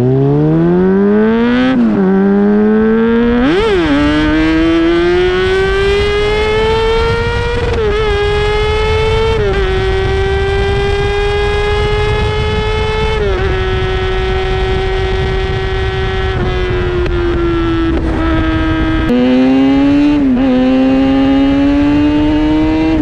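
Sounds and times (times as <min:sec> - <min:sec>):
wind and road noise: 0:00.0 - 0:23.0
sportbike engine shifting gears: 0:00.4 - 0:23.0.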